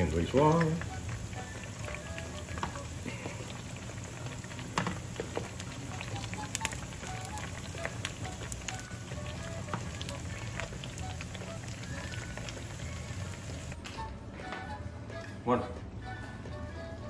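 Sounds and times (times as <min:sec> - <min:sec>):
plantain frying in oil: 0:00.0 - 0:13.8.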